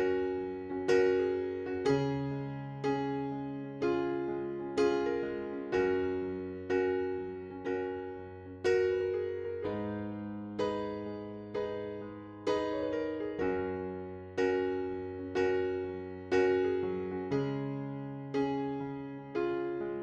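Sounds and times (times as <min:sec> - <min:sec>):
soft electric piano chords: 0:00.0 - 0:20.0.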